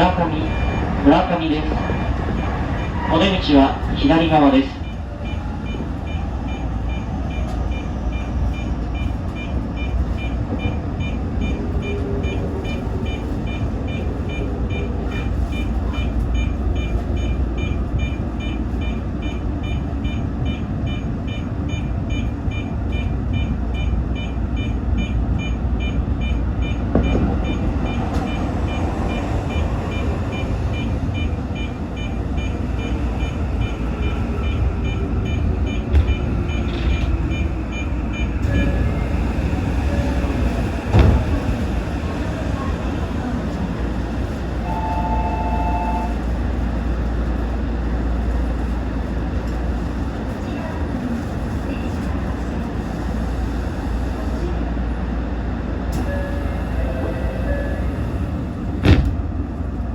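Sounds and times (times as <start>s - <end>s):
electric train humming: 0.0s - 59.9s.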